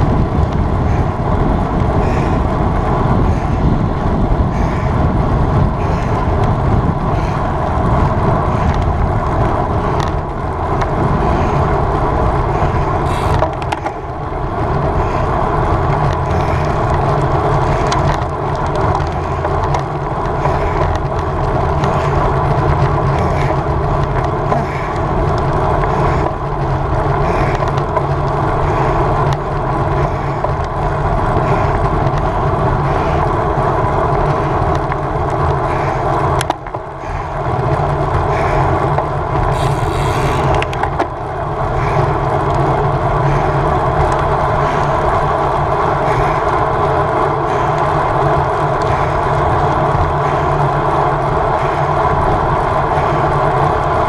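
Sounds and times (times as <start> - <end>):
tyres humming on road: 0.0 - 54.0
wind rushing over microphone: 0.0 - 54.0.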